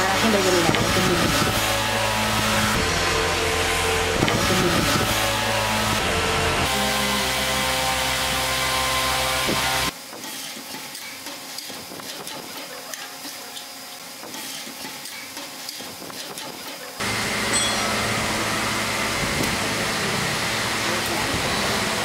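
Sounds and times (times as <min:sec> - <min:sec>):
workshop background noise: 0:00.0 - 0:22.0.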